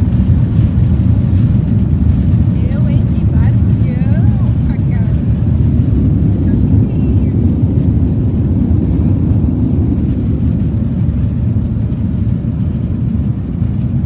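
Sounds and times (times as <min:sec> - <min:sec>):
airliner cabin low rumble: 0:00.0 - 0:14.0.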